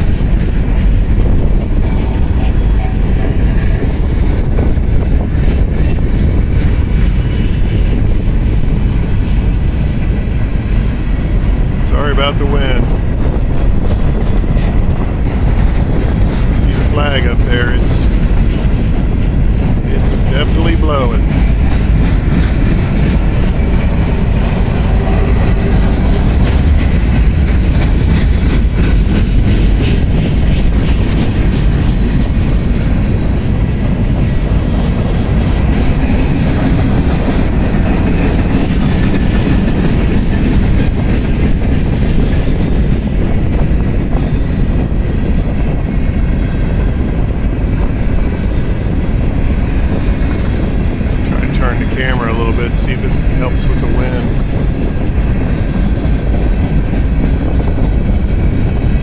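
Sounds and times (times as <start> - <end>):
train wheels rumbling on rails: 0.0 - 59.0
wind buffeting microphone: 0.0 - 59.0.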